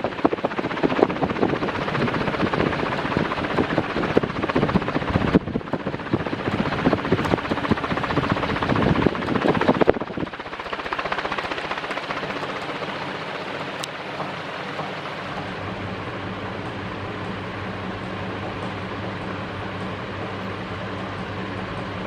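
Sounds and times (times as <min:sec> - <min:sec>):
ceiling fan blades fluttering: 0:00.0 - 0:22.0
faint motor hum: 0:00.0 - 0:22.0.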